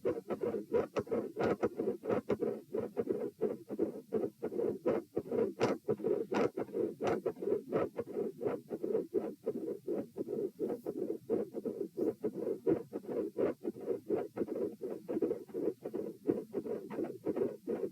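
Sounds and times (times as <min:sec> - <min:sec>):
heartbeat through stethoscope: 0:00.0 - 0:17.9.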